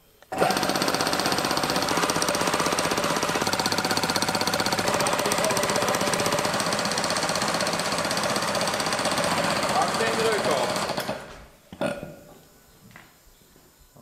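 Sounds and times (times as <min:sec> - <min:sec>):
air compressor pumping: 0:00.0 - 0:11.5.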